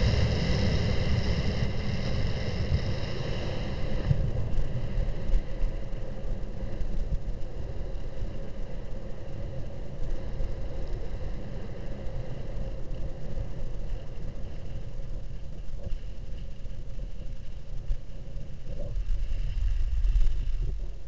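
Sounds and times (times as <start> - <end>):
low rumble of wind on microphone: 0.0 - 21.0.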